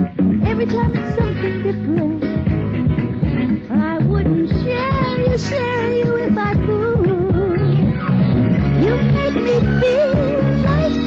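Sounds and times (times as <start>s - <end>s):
band accompaniment: 0.0s - 11.0s
woman singing: 0.4s - 2.6s, 3.2s - 8.0s, 8.8s - 11.0s.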